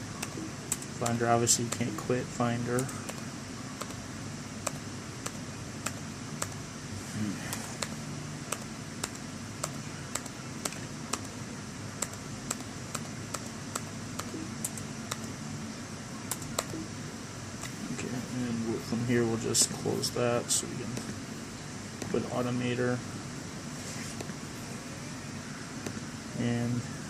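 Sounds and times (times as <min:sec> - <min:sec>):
faint low background noise: 0:00.0 - 0:27.0.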